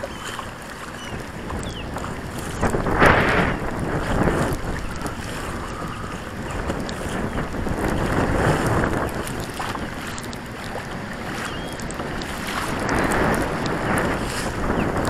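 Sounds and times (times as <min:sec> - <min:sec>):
water splashing against kayak hull: 0:00.0 - 0:15.0
wind buffeting microphone: 0:00.0 - 0:15.0.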